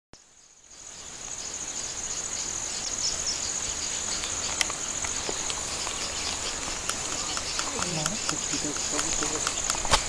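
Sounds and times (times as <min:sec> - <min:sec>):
insect chorus chirring: 0:00.2 - 0:10.0.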